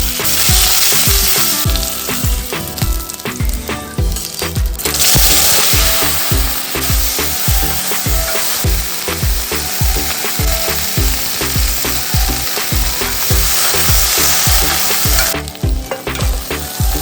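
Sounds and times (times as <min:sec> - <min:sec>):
background music with bass beat: 0:00.0 - 0:17.0
food sizzling in hot oil: 0:00.0 - 0:17.0.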